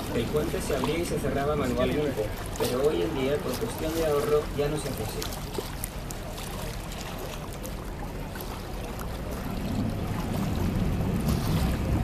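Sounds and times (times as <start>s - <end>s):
boat engine rumbling: 0.0s - 12.0s
water washing past hull: 0.0s - 12.0s.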